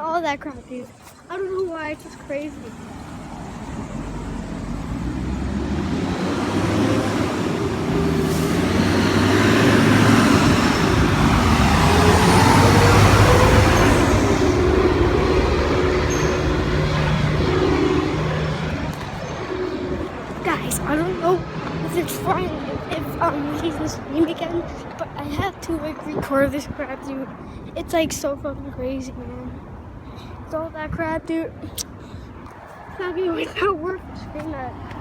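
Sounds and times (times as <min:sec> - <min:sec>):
heavy road vehicle passing: 0:00.2 - 0:35.0.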